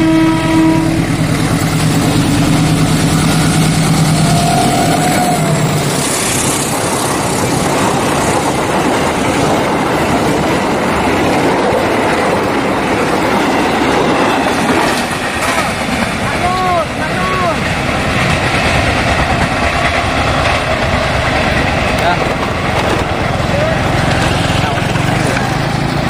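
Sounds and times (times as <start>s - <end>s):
diesel locomotive engine drone: 0.0s - 26.0s
train coaches rolling on rails: 0.0s - 26.0s.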